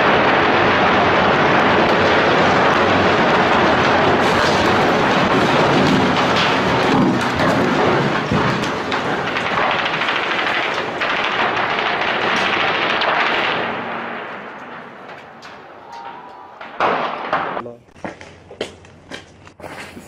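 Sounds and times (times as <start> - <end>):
explosion roar and crackle: 0.0 - 17.7.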